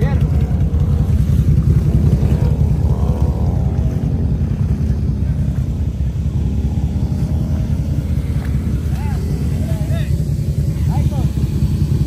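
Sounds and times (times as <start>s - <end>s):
off-road vehicle engines rumbling: 0.0s - 12.0s.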